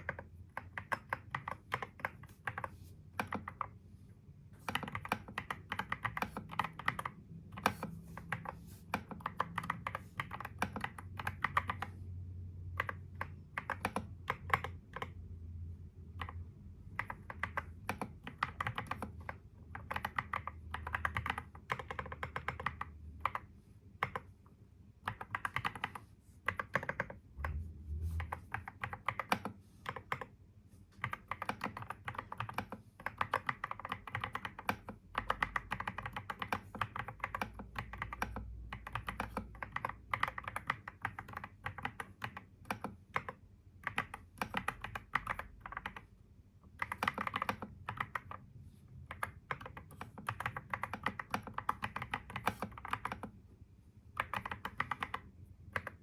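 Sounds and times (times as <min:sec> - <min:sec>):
keyboard typing clicks: 0:00.0 - 0:03.8, 0:04.6 - 0:12.0, 0:12.7 - 0:15.2, 0:16.1 - 0:24.3, 0:25.0 - 0:30.4, 0:31.0 - 0:53.4, 0:54.1 - 0:56.0.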